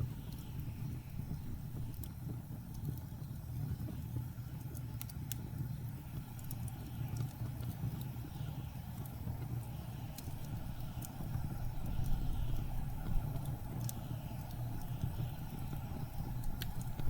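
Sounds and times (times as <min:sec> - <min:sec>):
fire popping: 0:00.0 - 0:17.0
low rumble of blizzard wind: 0:00.0 - 0:17.0
wood fire crackling: 0:00.0 - 0:17.0.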